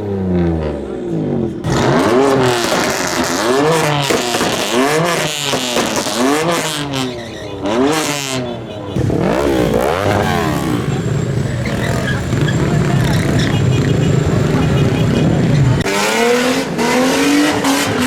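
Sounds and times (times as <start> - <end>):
car engine revving: 0.3 - 18.0.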